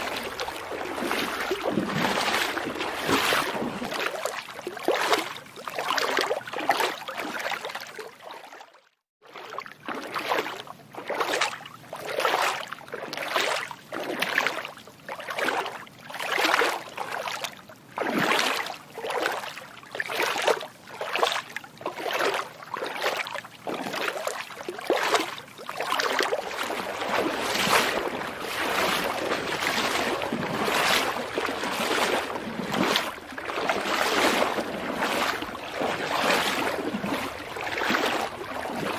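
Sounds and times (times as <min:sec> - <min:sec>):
feet splashing through water: 0:00.0 - 0:38.9.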